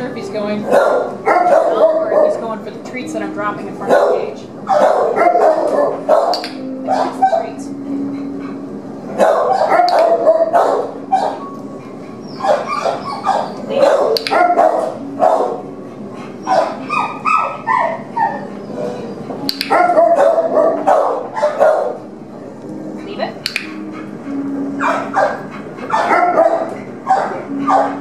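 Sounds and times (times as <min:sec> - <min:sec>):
dogs barking: 0:00.5 - 0:02.7, 0:03.8 - 0:22.2, 0:22.8 - 0:28.0.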